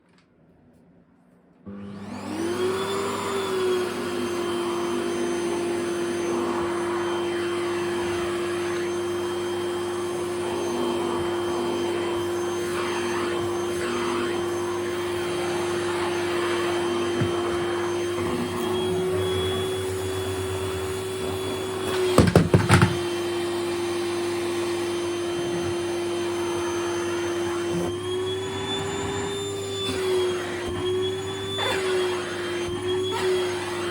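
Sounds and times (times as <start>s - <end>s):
vacuum cleaner whining: 1.6s - 33.9s.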